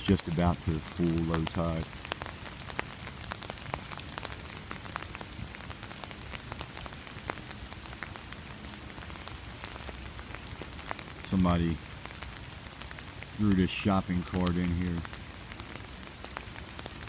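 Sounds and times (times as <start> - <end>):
rain hissing: 0.0 - 17.0
raindrops ticking on an umbrella: 0.0 - 17.0.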